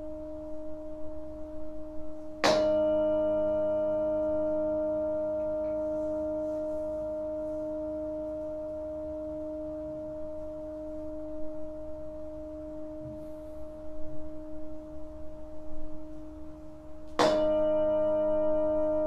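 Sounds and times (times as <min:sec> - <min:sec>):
metal singing bowl ringing: 0:02.2 - 0:16.6, 0:17.2 - 0:19.0.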